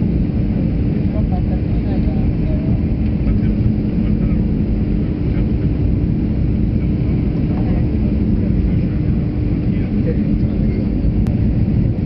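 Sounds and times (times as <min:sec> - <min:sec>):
jet engines and airflow rumble: 0:00.0 - 0:12.0
steady low hum: 0:00.0 - 0:12.0.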